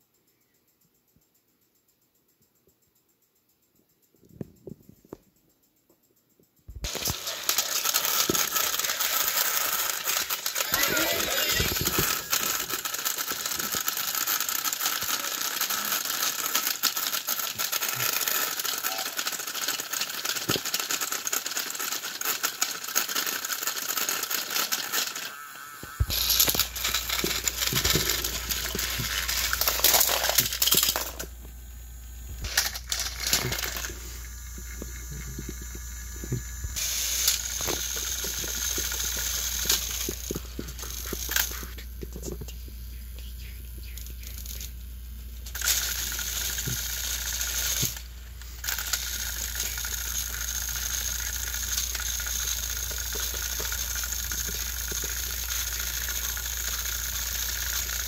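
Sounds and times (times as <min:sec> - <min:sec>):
toy engines rattling clatter: 0:06.8 - 0:31.5, 0:32.2 - 0:58.0.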